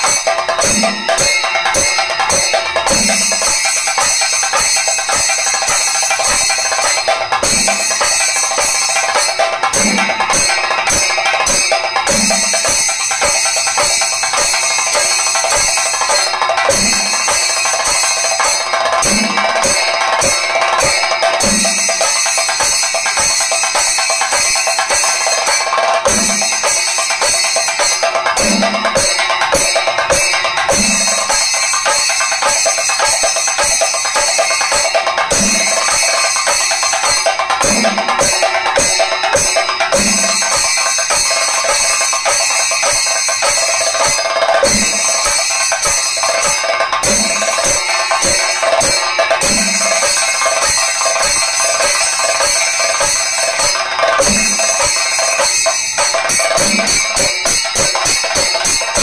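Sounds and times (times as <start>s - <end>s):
drums struck with sticks: 0.0s - 59.0s
ringing cymbals: 0.0s - 59.0s.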